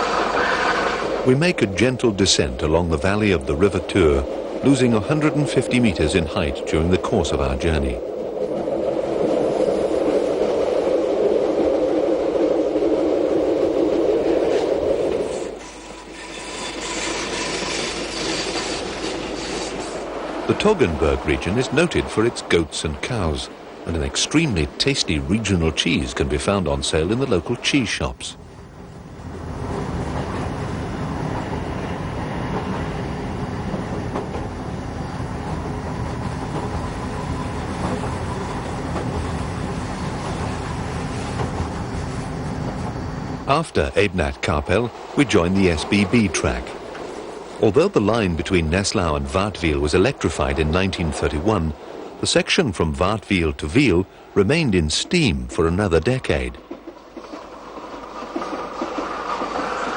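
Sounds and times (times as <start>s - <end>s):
electric train rumbling on track: 0.0s - 59.9s.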